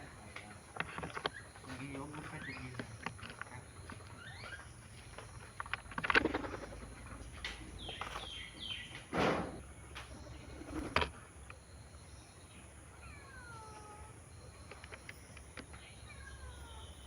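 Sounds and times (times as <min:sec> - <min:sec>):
harsh squawking bird calls: 0:00.0 - 0:11.4, 0:12.5 - 0:17.0.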